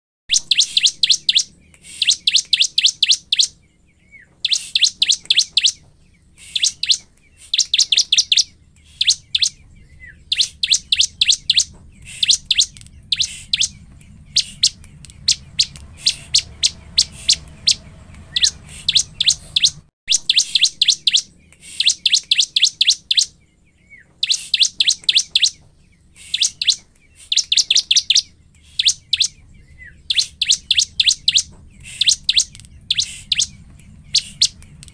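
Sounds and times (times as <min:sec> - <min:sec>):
bird singing high chirps: 0:00.3 - 0:34.9.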